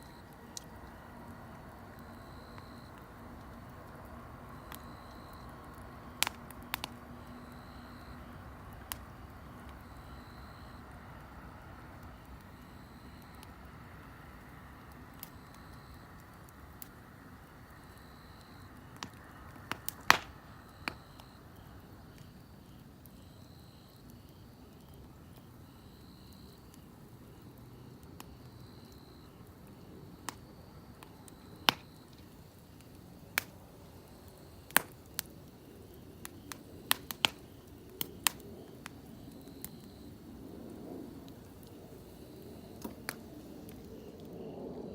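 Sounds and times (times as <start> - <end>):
low steady hiss: 0.0 - 44.9
wood fire crackling: 0.0 - 44.9.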